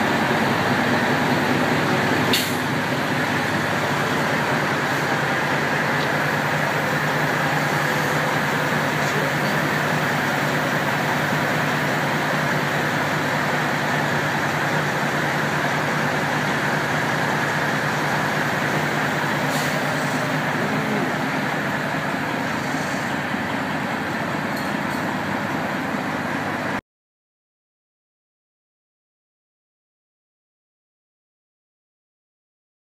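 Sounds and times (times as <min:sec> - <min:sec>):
diesel truck engine idling: 0:00.0 - 0:26.8.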